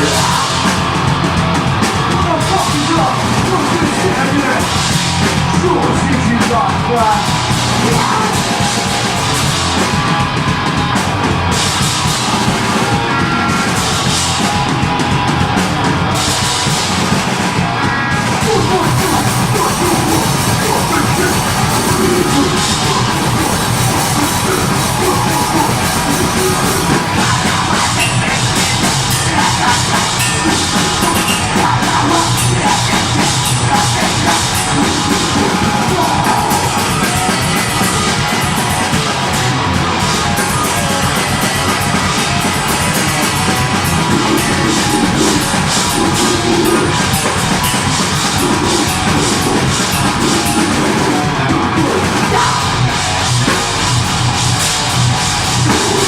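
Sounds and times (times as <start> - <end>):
distorted guitars: 0.0 - 56.0
fast pounding drums: 0.0 - 56.0
shouted vocals: 0.0 - 56.0.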